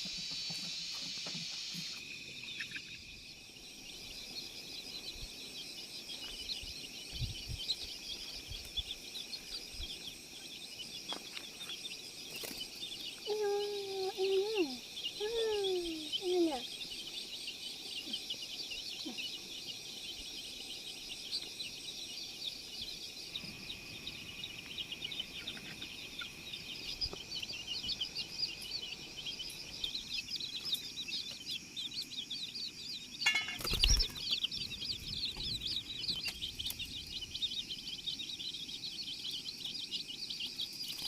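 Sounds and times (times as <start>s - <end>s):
high-pitched chirping chorus: 0.0s - 41.0s.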